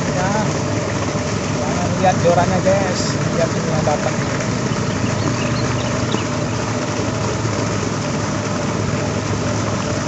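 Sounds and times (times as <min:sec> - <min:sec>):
low engine-like hum: 0:00.0 - 0:10.0.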